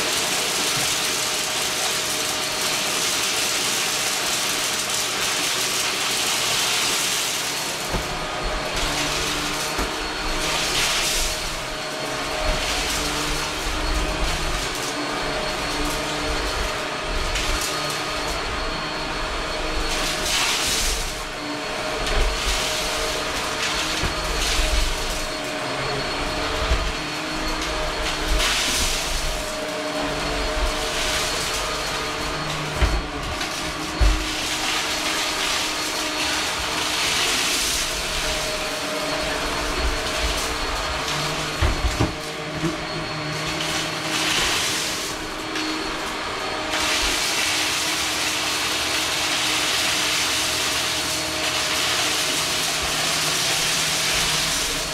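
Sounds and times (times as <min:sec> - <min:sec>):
vacuum cleaner running on carpet: 0:00.0 - 0:54.9.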